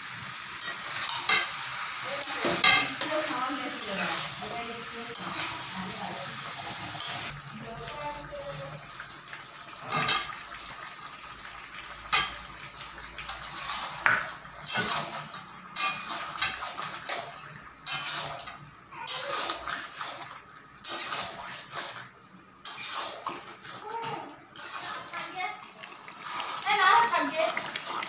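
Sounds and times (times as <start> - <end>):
metal spatula scraping pot: 0.6 - 7.3, 9.8 - 10.4, 12.0 - 28.0.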